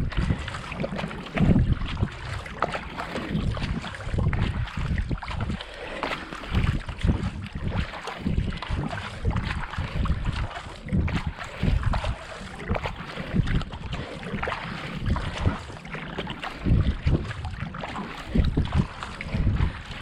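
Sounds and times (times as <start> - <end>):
kayak paddles dipping in water: 0.0 - 20.0
wind buffeting microphone: 0.0 - 20.0.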